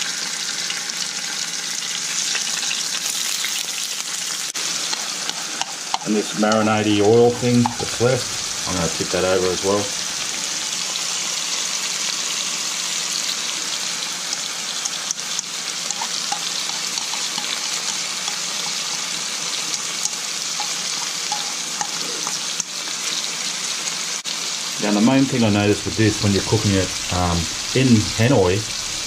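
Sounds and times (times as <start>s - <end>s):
fish frying in oil: 0.0s - 29.0s.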